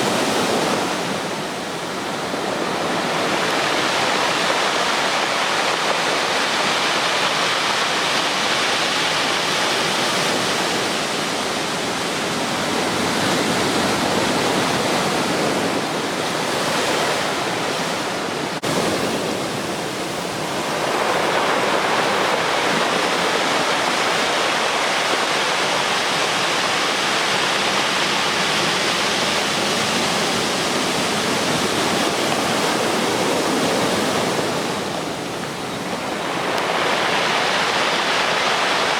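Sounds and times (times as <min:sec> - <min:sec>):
ocean surf breaking: 0:00.0 - 0:38.9.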